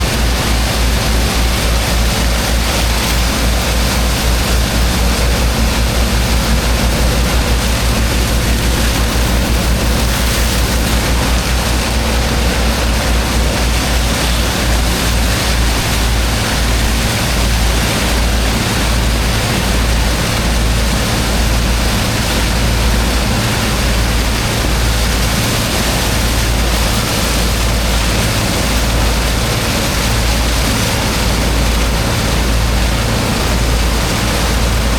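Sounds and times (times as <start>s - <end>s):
pump engine humming: 0.0s - 34.9s
water jet spraying into sand: 0.0s - 34.9s.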